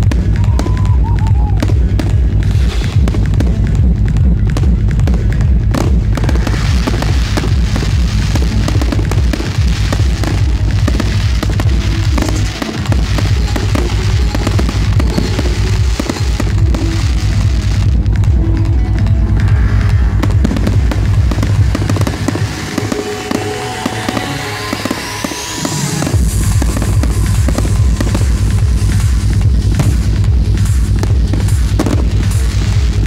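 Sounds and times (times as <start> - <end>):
electronic dance music: 0.0 - 33.0
firework crackling: 0.0 - 33.0
firework shells bursting: 0.0 - 33.0.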